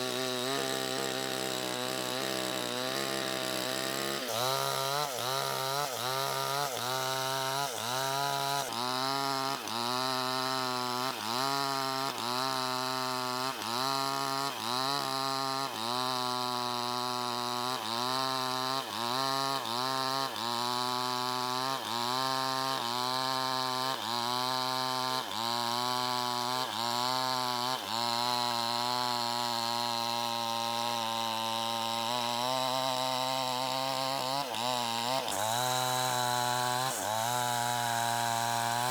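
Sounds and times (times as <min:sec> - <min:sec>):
chainsaw cutting: 0:00.0 - 0:38.9.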